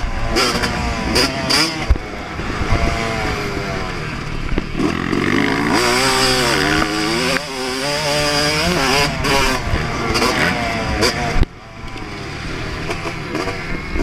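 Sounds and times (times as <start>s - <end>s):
motocross engine at full throttle: 0.0s - 14.0s.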